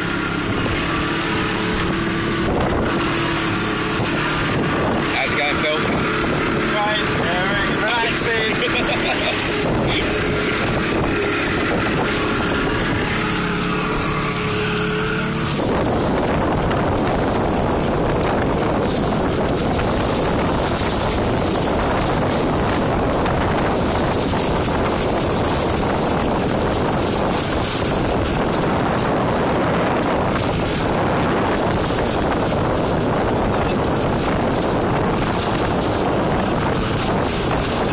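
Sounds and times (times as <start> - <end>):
motorboat engine drone: 0.0 - 37.9
water spray off hull: 0.0 - 37.9
wind buffeting microphone: 0.0 - 37.9.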